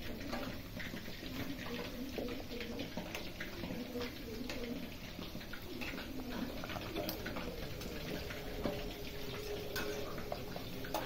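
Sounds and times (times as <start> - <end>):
chicken deep-frying in oil: 0.0 - 11.0
spoon turning frying food: 0.0 - 11.0.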